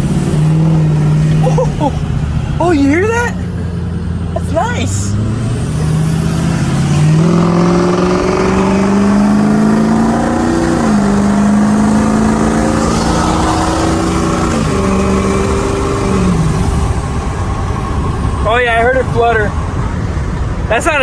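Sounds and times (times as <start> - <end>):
diesel engine accelerating: 0.0 - 21.0.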